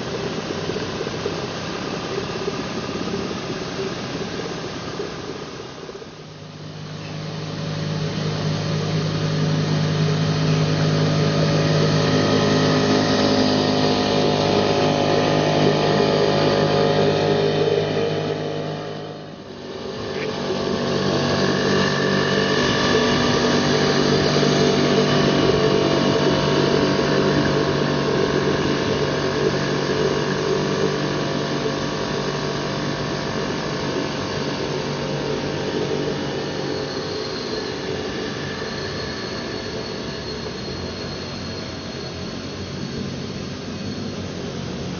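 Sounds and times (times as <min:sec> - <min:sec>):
outboard motor running: 0:00.0 - 0:44.9.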